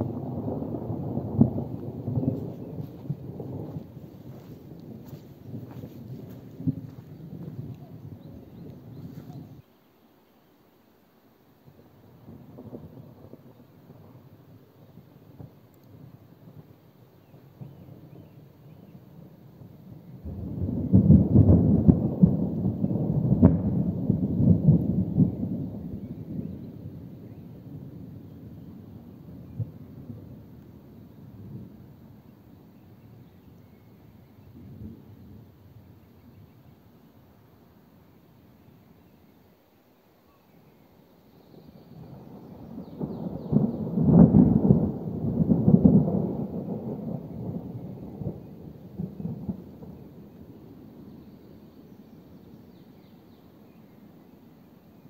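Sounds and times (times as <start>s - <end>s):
thunder rumbling: 0.0s - 9.6s, 12.0s - 37.4s, 41.5s - 51.2s.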